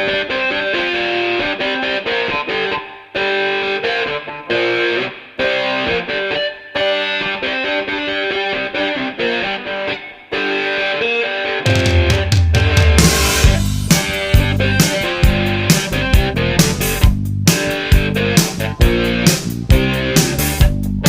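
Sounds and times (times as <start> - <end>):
distorted electric guitar riff: 0.0 - 21.0.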